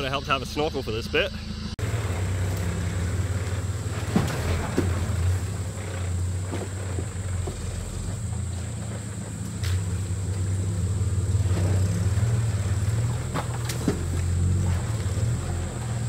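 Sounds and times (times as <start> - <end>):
steady low hum: 0.0 - 16.0
truck engine at low revs: 0.0 - 16.0.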